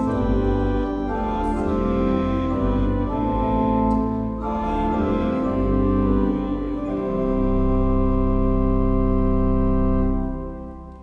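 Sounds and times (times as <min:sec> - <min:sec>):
church organ chord: 0:00.0 - 0:11.0.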